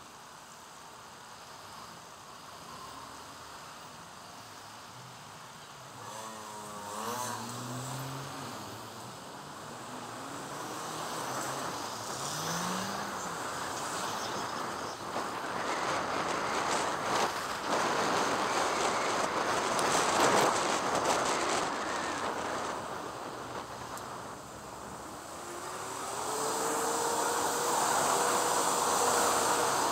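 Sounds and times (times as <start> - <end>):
vehicle engines pulling away: 5.2 - 29.9.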